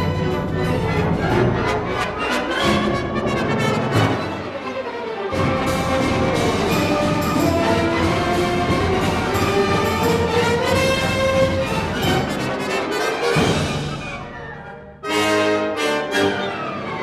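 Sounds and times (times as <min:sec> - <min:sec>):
brass and woodwinds: 0:00.0 - 0:17.0
symphony orchestra playing: 0:00.0 - 0:17.0.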